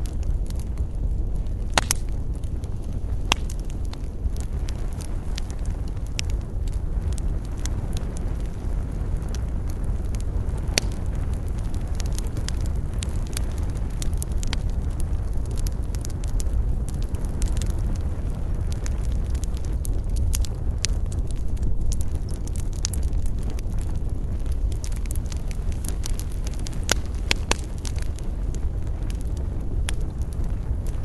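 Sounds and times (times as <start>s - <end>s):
low rumble: 0.0s - 31.0s
wood fire crackling: 0.0s - 31.0s.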